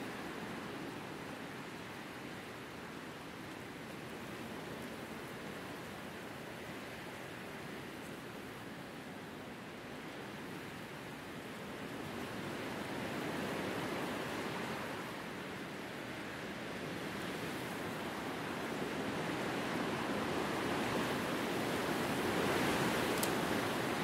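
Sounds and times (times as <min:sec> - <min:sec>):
wind through grass and trees: 0:00.0 - 0:24.0.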